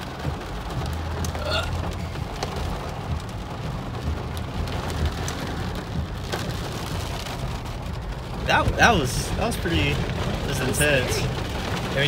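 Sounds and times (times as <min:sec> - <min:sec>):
car rumbling on wet road: 0:00.0 - 0:12.0
rain on a car: 0:00.0 - 0:12.0.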